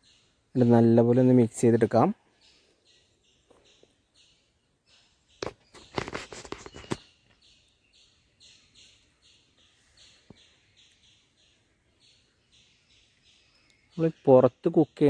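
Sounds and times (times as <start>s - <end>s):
high chirping: 0.0s - 15.0s.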